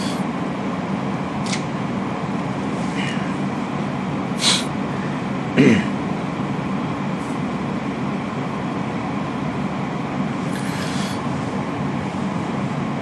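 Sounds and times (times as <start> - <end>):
room noise drone: 0.0 - 13.0.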